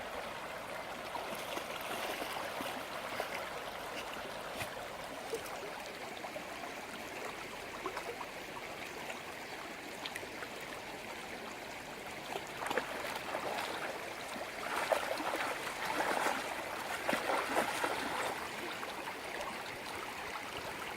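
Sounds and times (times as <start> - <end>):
stream trickling: 0.0 - 20.9
water gurgling: 0.0 - 20.9.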